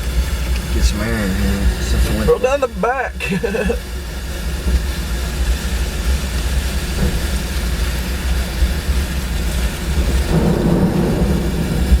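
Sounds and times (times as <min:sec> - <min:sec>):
storm wind and rain: 0:00.0 - 0:12.0.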